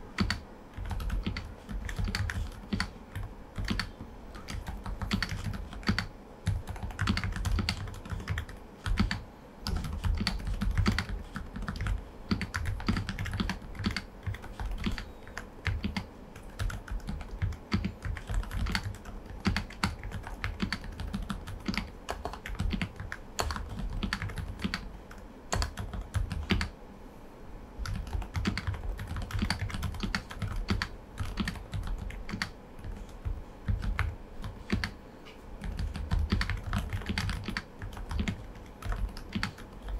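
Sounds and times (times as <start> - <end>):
soft keyboard keystrokes: 0.2 - 26.7, 27.8 - 39.9.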